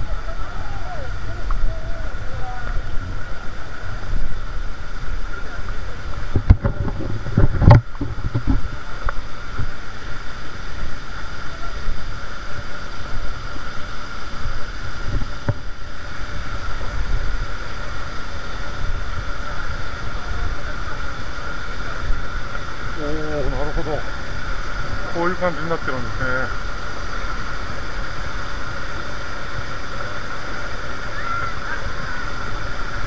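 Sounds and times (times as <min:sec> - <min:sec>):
mountain stream rushing: 0:00.0 - 0:33.0
wind buffeting microphone: 0:00.0 - 0:33.0.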